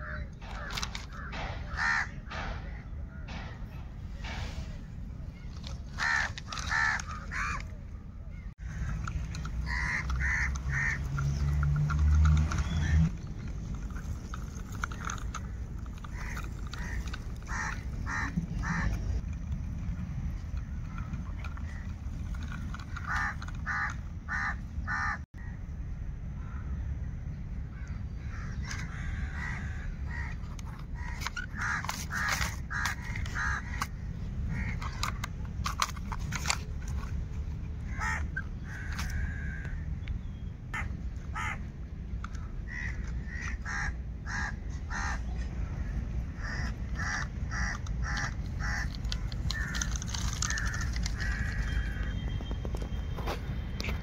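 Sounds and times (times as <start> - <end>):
birds calling: 0.0 - 25.7, 26.3 - 54.0
steady low rumble: 0.0 - 54.0.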